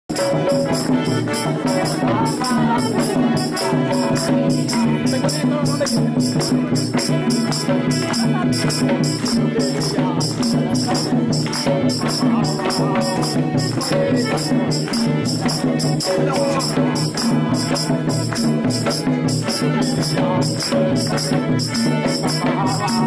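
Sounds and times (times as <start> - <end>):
high percussion beats: 0.1 - 23.0
person singing: 0.1 - 23.0.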